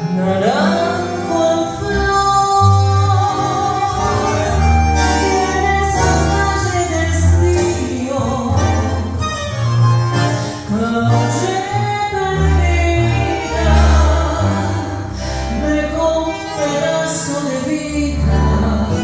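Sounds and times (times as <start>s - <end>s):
woman singing: 0.0s - 9.2s, 10.7s - 19.0s
bandoneon: 0.0s - 19.0s
double bass low notes: 0.0s - 19.0s
guitar: 0.0s - 19.0s.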